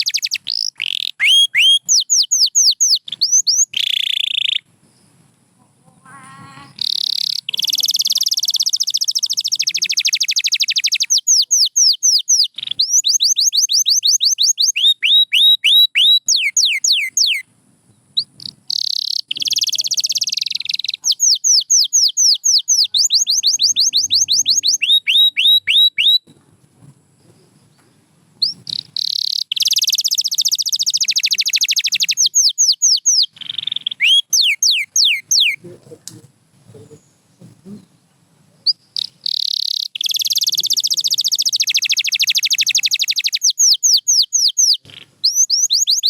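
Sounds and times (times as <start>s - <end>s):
canary singing: 0.0s - 4.7s, 5.9s - 17.5s, 18.2s - 26.3s, 28.4s - 35.8s, 38.6s - 46.0s.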